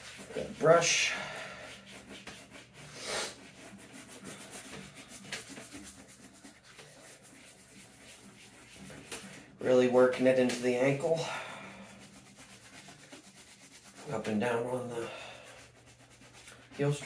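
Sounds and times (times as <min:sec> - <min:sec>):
shoe brush scrubbing leather: 0:00.0 - 0:17.0.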